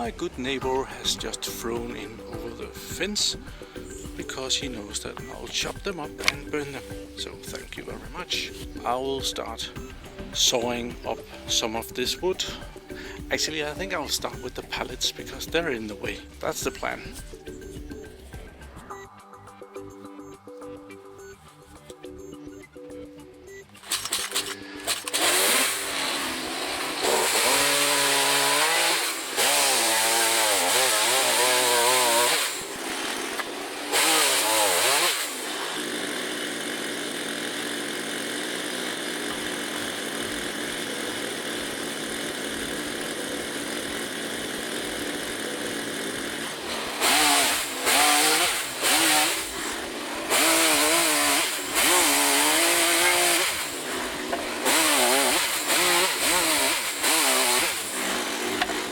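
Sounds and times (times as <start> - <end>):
chainsaw revving and cutting wood: 0.0 - 58.9.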